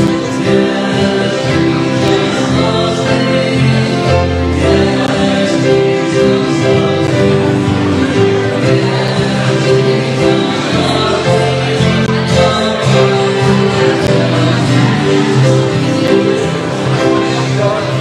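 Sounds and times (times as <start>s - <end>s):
men singing into microphones: 0.0s - 18.0s
strummed acoustic guitars: 0.0s - 18.0s.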